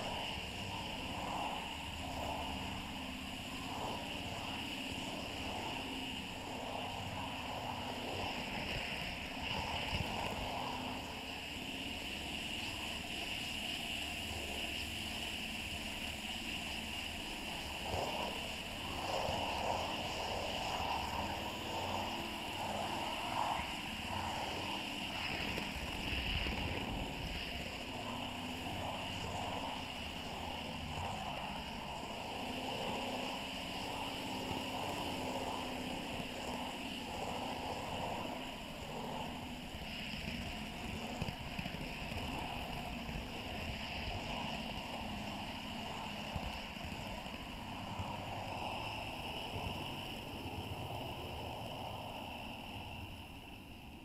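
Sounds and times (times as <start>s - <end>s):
motor whine: 0.0s - 54.0s.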